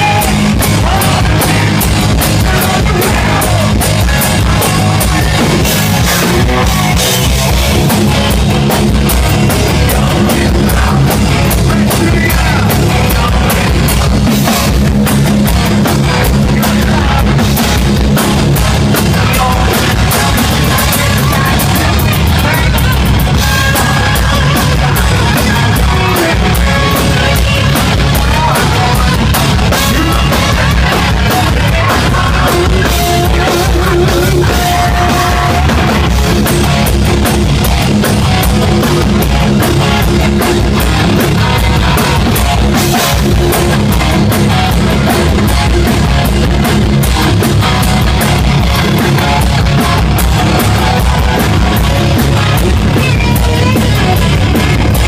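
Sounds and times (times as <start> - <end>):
hard rock band playing: 0.0 - 55.0.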